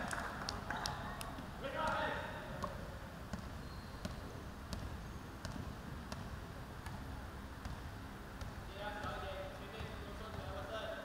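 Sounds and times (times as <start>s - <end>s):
low background hum: 0.0s - 11.0s
basketball bouncing on wooden floor: 0.8s - 10.7s.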